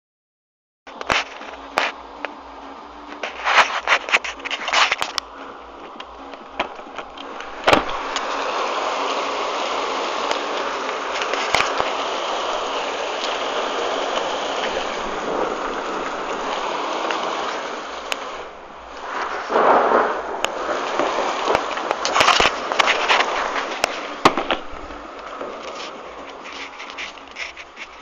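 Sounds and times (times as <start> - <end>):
rain pouring: 0.9 - 28.0.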